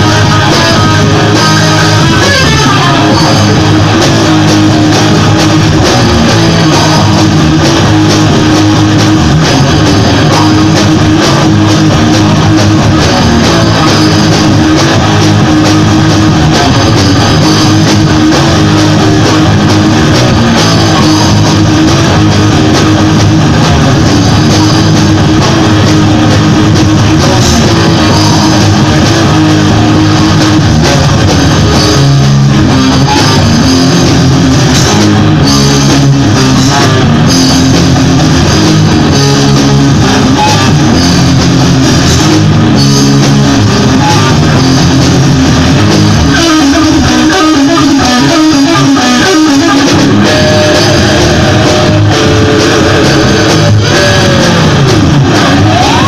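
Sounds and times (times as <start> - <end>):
drum kit: 0.0 - 56.0
electric guitars: 0.0 - 56.0.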